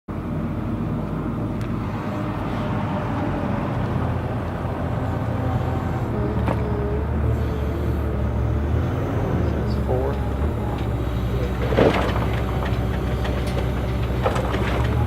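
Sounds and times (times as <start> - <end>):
vehicle engine rumbling: 0.1 - 15.0.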